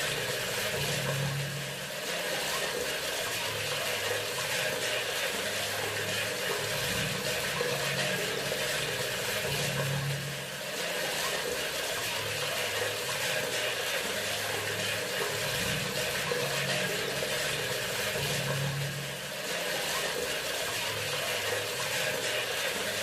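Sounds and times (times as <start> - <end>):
faucet running: 0.0 - 23.0.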